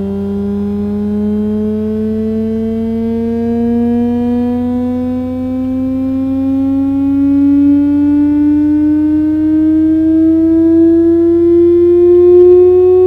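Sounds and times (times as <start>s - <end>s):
buzzy test tone rising: 0.0s - 13.0s
steady low hum: 0.0s - 13.0s.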